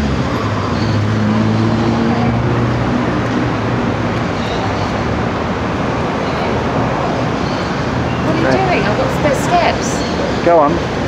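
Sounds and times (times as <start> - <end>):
city street traffic: 0.0 - 11.0
vehicle engine humming: 0.0 - 11.0.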